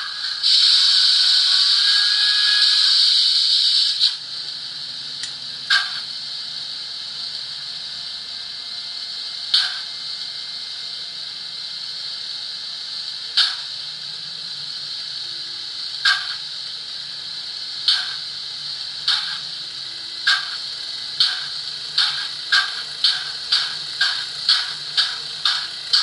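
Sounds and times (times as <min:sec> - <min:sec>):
steam locomotive hiss and chuffs: 0:00.0 - 0:26.0.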